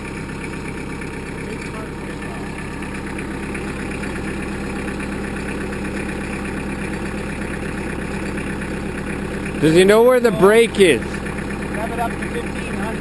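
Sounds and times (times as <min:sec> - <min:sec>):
diesel tractor engine idling: 0:00.0 - 0:13.0.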